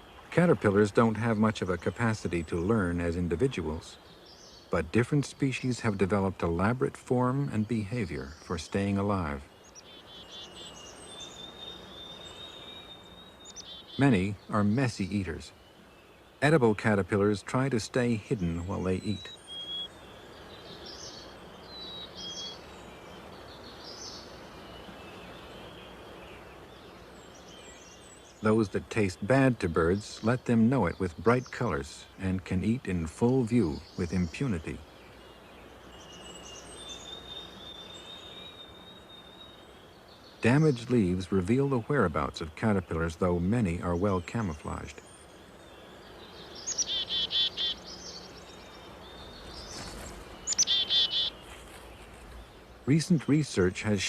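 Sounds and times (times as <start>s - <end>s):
birds chirping: 0.0s - 54.0s
chickadee calling: 0.0s - 54.0s
steady outdoor hiss: 0.0s - 54.0s.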